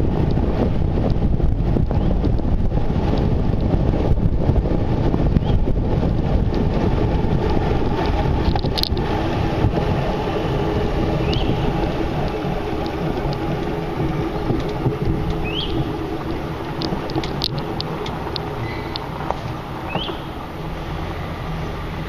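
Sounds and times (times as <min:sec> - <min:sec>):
heavy wind buffeting microphone: 0:00.0 - 0:22.0.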